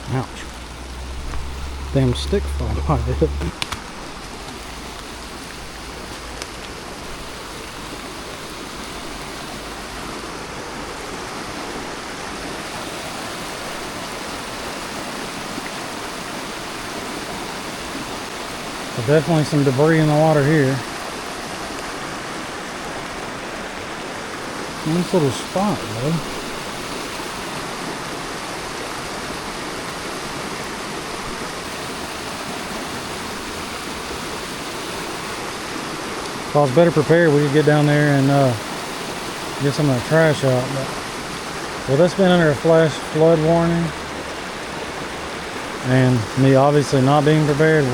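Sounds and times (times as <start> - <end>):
falling rain: 0.0 - 47.9
river rushing: 0.0 - 47.9.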